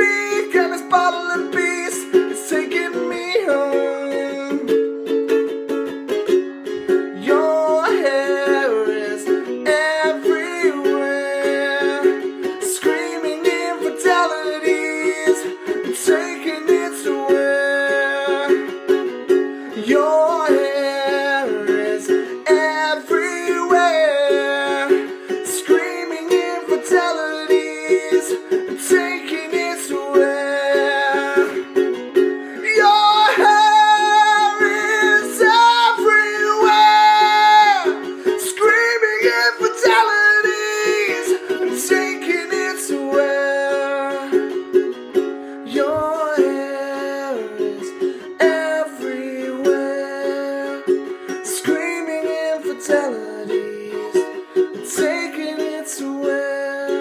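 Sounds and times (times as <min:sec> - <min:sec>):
man singing: 0:00.0 - 0:05.2, 0:06.8 - 0:57.0
strummed ukulele: 0:00.0 - 0:57.0.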